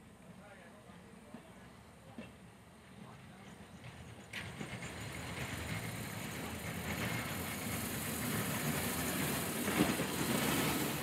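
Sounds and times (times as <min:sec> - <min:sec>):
rail vehicle engine running: 0:00.0 - 0:11.0.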